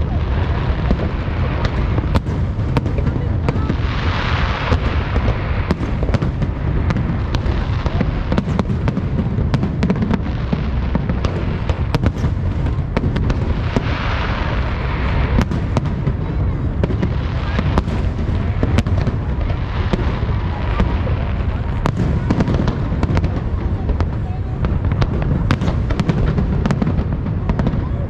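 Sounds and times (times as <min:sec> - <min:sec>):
fireworks popping and cracking: 0:00.0 - 0:28.0
hissing crackle: 0:00.0 - 0:28.0.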